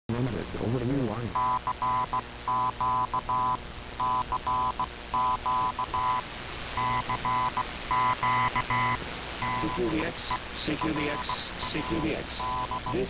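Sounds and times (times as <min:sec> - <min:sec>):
shortwave radio hiss: 0:00.1 - 0:13.0
morse code tone: 0:01.4 - 0:06.2, 0:06.8 - 0:13.0.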